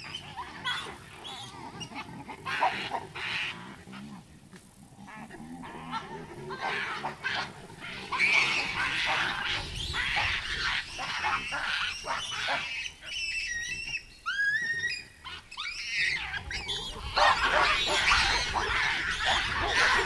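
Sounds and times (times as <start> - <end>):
lower pitched baboon calls: 0.0 - 3.9, 5.2 - 20.0
baboons calling harshly: 0.0 - 4.3, 5.0 - 20.0.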